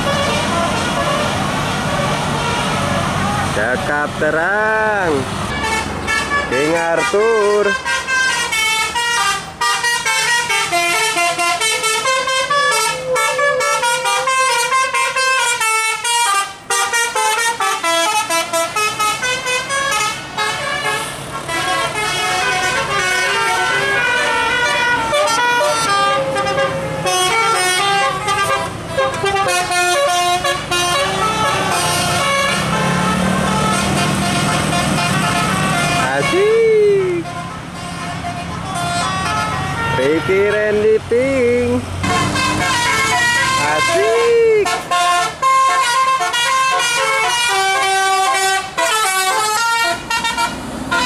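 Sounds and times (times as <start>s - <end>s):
musical air horn melody: 5.5s - 40.8s, 42.0s - 51.0s.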